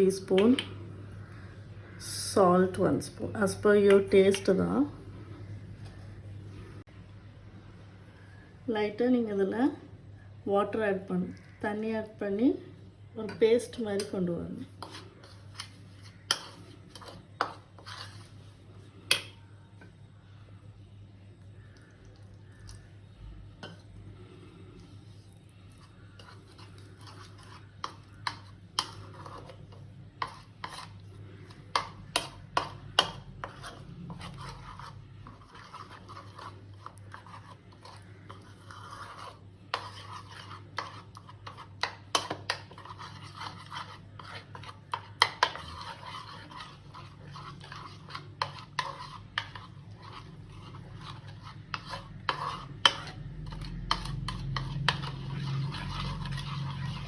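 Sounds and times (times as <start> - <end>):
low steady hum: 0.0 - 57.0
spoon scraping batter: 10.2 - 57.0.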